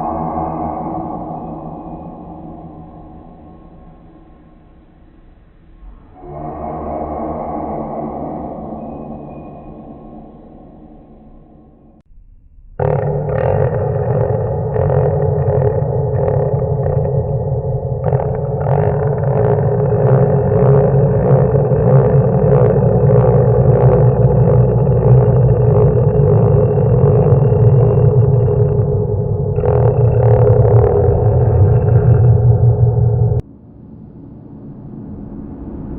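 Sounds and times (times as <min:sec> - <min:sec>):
distorted horror drone: 0:00.0 - 0:35.9
heavy low rumble: 0:00.0 - 0:35.9.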